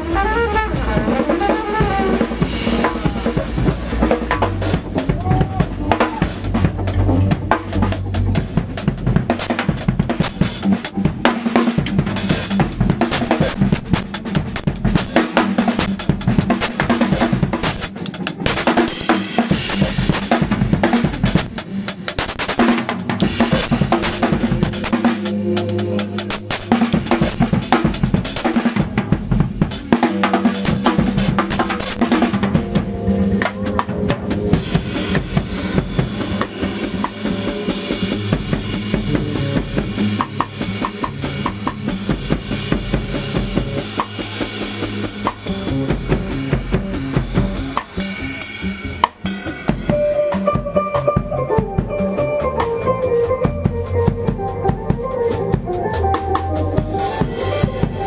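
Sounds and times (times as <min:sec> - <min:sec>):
drum kit played with sticks: 0:00.0 - 0:58.0
jazz band playing: 0:00.0 - 0:58.0.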